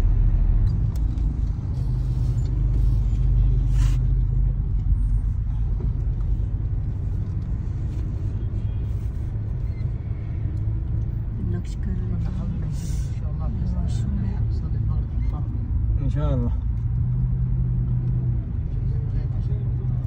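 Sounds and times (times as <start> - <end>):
road noise: 0.0 - 20.0
van engine rumble: 0.0 - 20.0.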